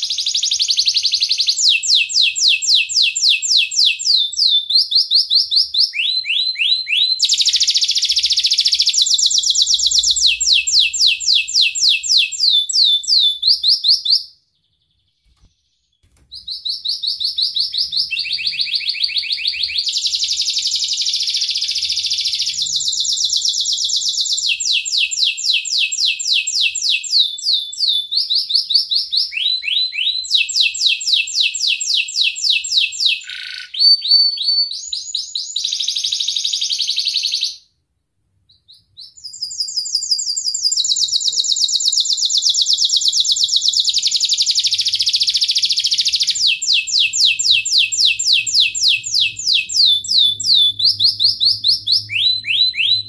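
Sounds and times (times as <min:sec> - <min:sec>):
canary singing fast trills: 0:00.0 - 0:37.6, 0:38.5 - 0:53.0.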